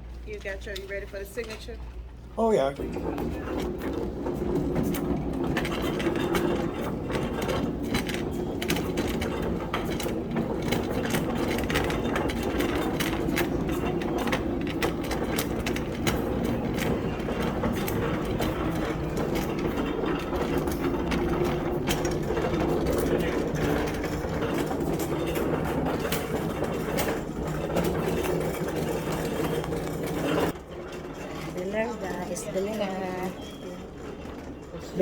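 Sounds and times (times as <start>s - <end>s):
mechanical clicking and rattling: 0.4s - 35.0s.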